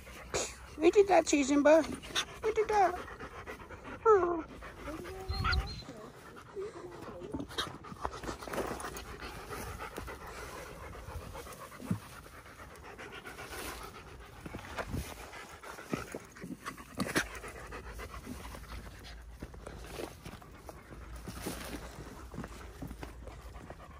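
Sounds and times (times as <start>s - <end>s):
dog panting: 0.0s - 23.9s.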